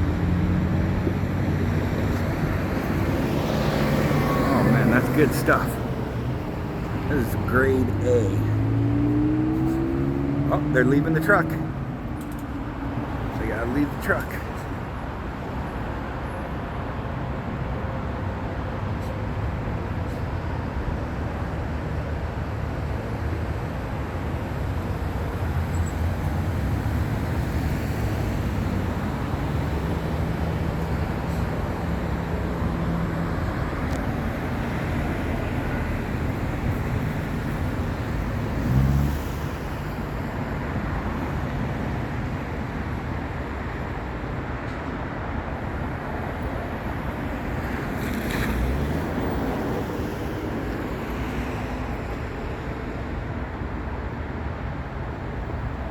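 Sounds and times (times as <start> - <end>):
road traffic: 0.0 - 55.9.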